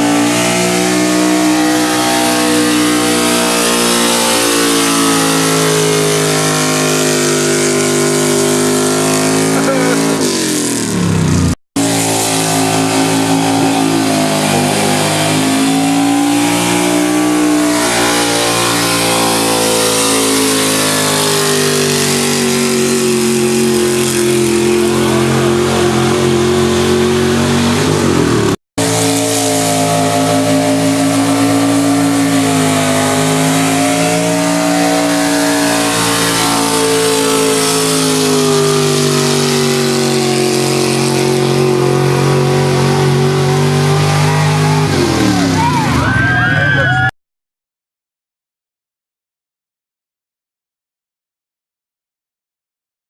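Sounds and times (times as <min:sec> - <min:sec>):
truck engine revving high: 0:00.0 - 0:47.1.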